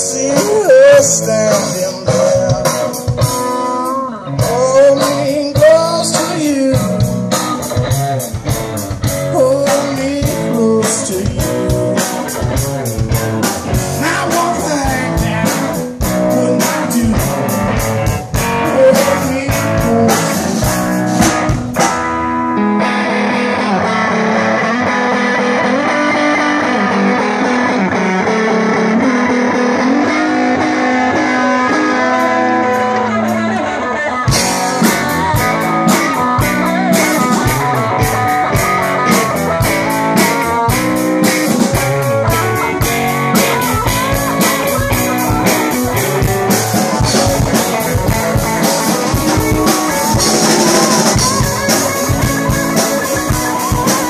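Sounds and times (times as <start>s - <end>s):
drum kit: 0.0s - 54.0s
electric guitar lead lines: 0.0s - 54.0s.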